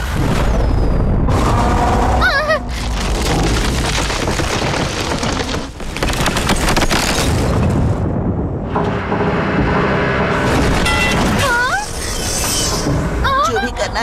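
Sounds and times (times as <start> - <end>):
booming rumble with crackles: 0.0 - 11.4.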